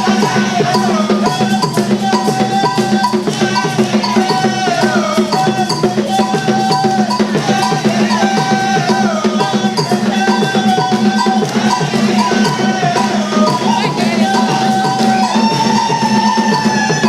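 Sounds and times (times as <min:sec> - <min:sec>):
busy percussion beat: 0:00.0 - 0:17.0.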